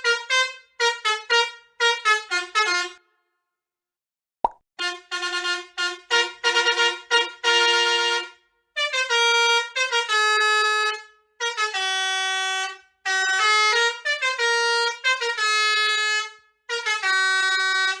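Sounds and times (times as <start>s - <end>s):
bus musical horn playing a tune: 0.0s - 3.2s, 4.8s - 18.0s.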